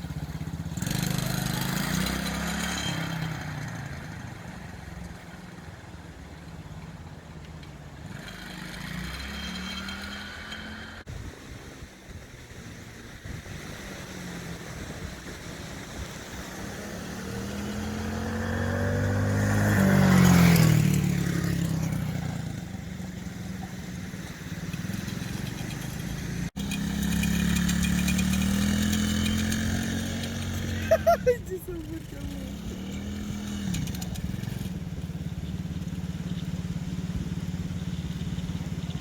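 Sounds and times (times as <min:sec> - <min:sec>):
quad bike engine under throttle: 0:00.0 - 0:39.0.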